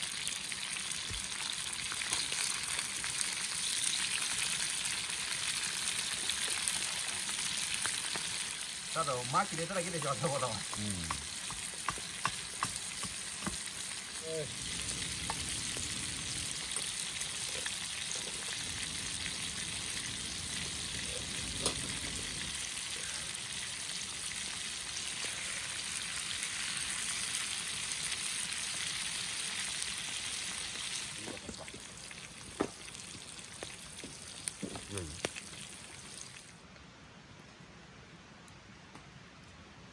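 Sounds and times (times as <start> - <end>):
food sizzling in a frying pan: 0.0 - 36.5.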